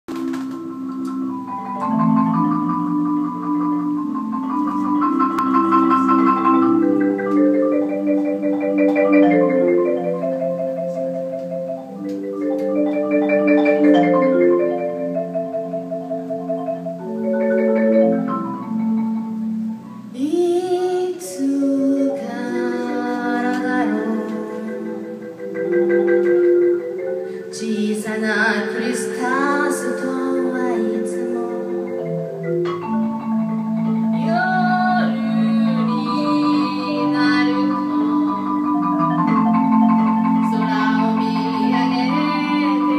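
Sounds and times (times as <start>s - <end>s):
marimba played solo: 0.1s - 42.9s.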